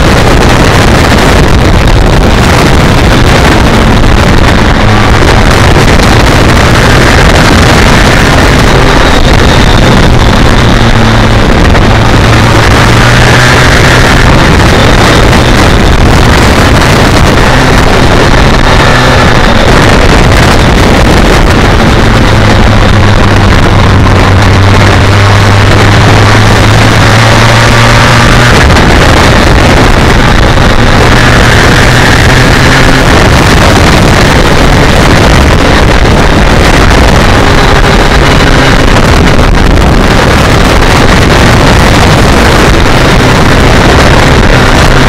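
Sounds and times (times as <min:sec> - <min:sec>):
motorcycle engine cruising: 0:00.0 - 0:45.0
wind rush on microphone: 0:00.0 - 0:45.0.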